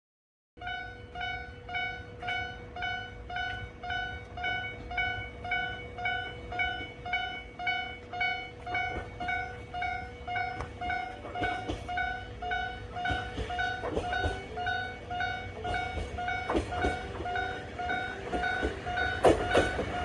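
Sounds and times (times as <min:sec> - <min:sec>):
level-crossing warning bell ringing: 0:00.6 - 0:20.0.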